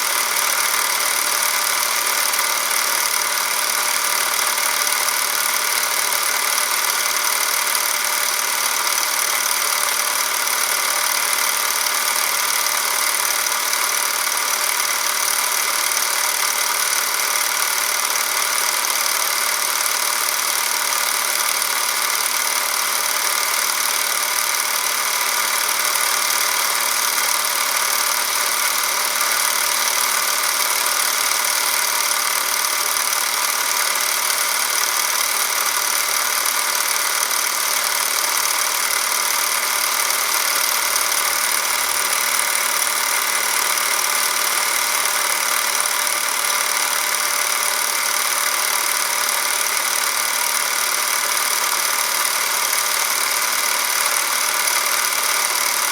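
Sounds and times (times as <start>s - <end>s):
film camera motor whirring: 0.0s - 55.9s.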